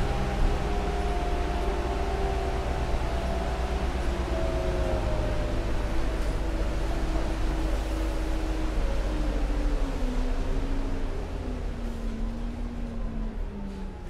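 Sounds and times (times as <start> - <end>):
bus engine low rumble: 0.0 - 14.0.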